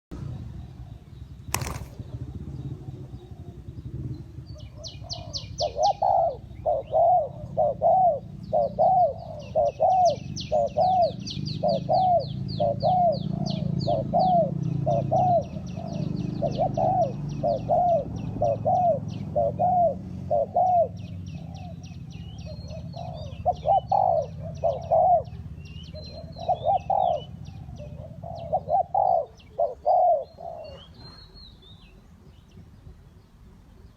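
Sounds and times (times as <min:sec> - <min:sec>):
small birds chirping trills: 0:00.2 - 0:33.9
dove cooing: 0:00.7 - 0:03.8, 0:04.4 - 0:31.4.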